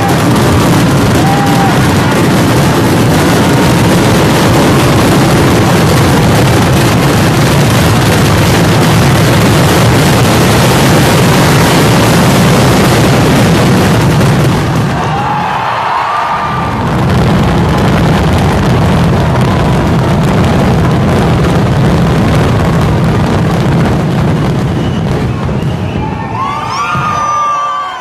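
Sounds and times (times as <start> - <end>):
fireworks barrage: 0.0 - 28.0.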